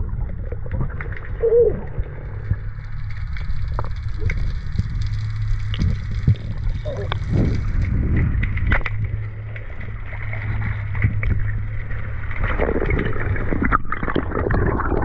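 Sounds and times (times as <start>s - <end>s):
rushing water: 0.0s - 15.0s
underwater low hum: 0.0s - 15.0s.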